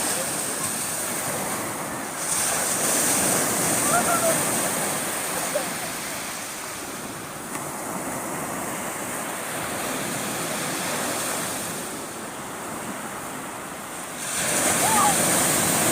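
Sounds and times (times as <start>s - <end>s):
sea waves washing in: 0.0s - 15.9s.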